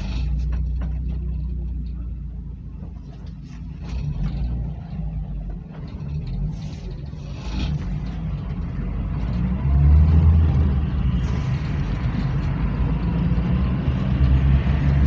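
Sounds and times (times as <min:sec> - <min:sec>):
road noise: 0:00.0 - 0:15.0
van engine drone: 0:00.0 - 0:15.0.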